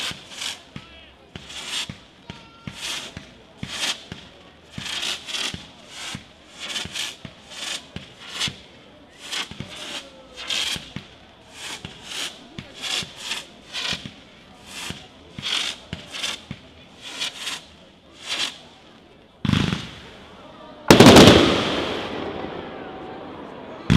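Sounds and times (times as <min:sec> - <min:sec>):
fireworks hissing bursts: 0:00.0 - 0:22.4
fireworks sharp cracks: 0:00.0 - 0:22.9.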